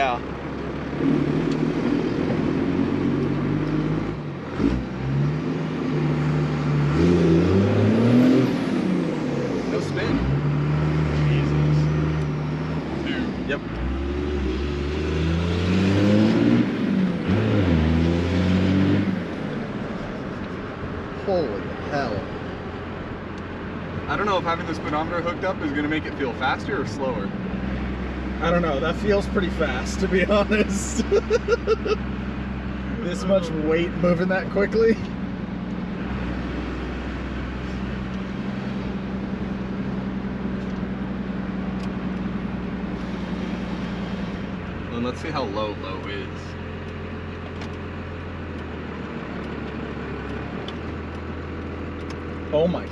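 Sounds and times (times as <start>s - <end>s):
diesel truck engine accelerating: 0.0s - 52.9s.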